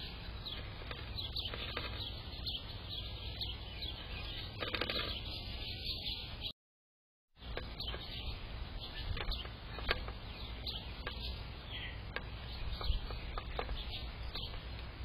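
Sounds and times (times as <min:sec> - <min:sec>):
songbirds chirping: 0:00.0 - 0:06.5, 0:07.4 - 0:15.0.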